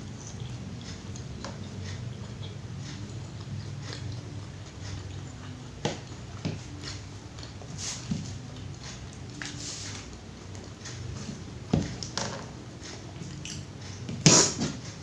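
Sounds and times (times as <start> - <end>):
chewing and mouth clicks: 0.0 - 12.2, 12.8 - 14.0
steady low hum: 0.0 - 15.0.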